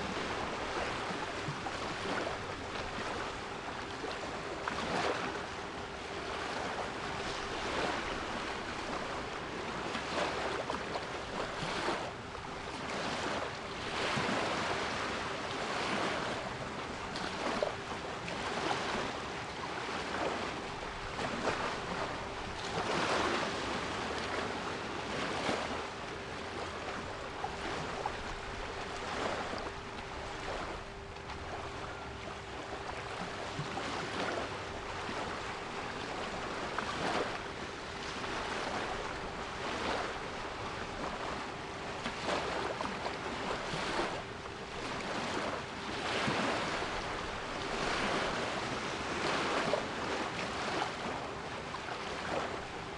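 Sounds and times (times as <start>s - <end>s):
sea waves breaking: 0.0s - 52.9s.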